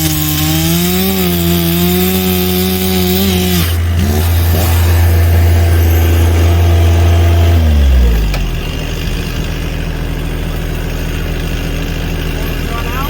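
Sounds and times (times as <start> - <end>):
chainsaw revving and idling: 0.0 - 13.0.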